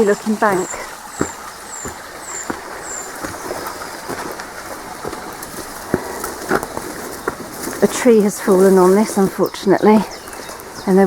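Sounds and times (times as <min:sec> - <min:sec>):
footsteps in undergrowth: 0:00.0 - 0:11.0.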